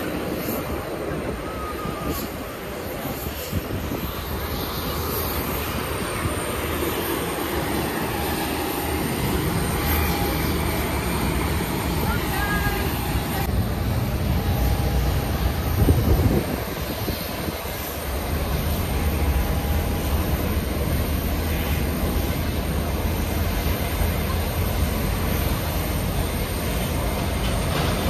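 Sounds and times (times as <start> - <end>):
airport noise rumble: 0.0 - 28.0.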